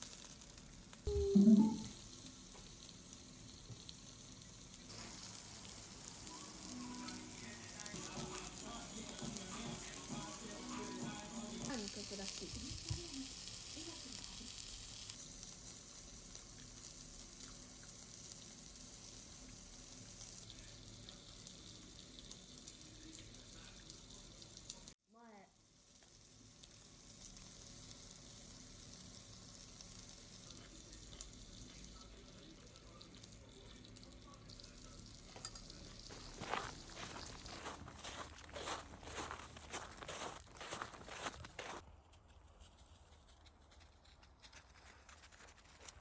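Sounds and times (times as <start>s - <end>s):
food sizzling in a pan: 0.0s - 41.3s.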